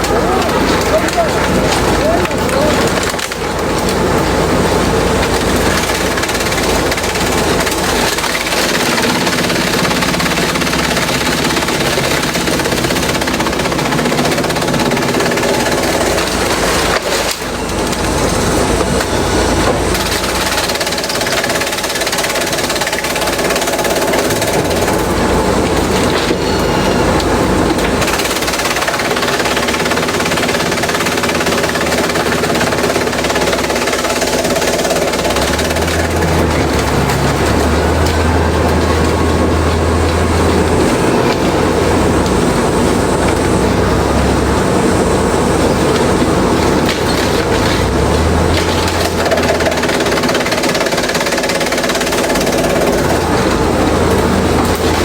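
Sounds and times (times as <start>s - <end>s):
shredder chewing bamboo: 0.0s - 55.0s.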